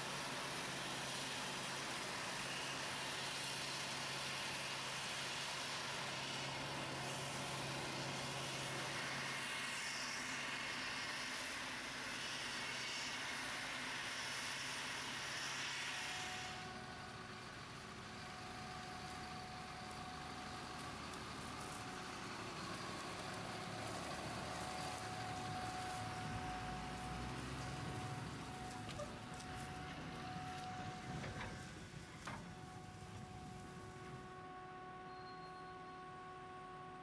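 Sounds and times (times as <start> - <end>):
forage harvester droning: 0.0 - 37.0
tractor engine: 0.0 - 37.0.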